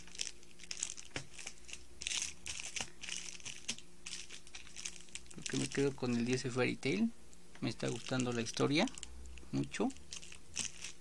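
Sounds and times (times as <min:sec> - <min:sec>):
paper rustling and crinkling: 0:00.0 - 0:06.5, 0:07.8 - 0:09.0, 0:09.8 - 0:11.0.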